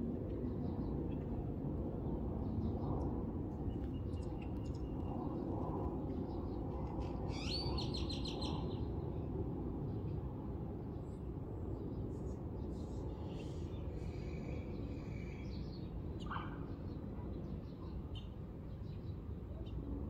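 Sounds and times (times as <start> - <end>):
steady low rumble: 0.0 - 16.2.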